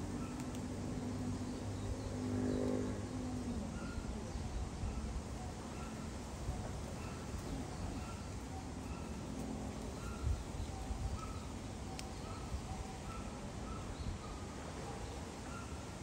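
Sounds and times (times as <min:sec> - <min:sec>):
birds calling: 0:00.0 - 0:16.0
outdoor background noise: 0:00.0 - 0:16.0.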